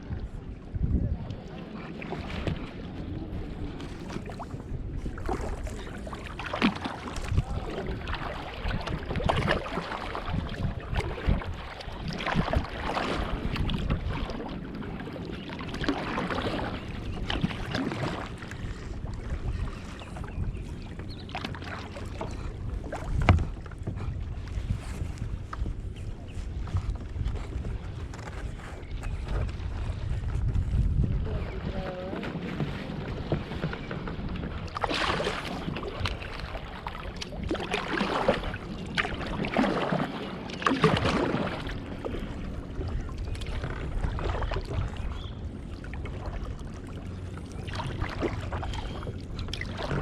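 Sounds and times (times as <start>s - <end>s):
paddle splashing in water: 0.0s - 50.0s
wind rumble on microphone: 0.0s - 50.0s.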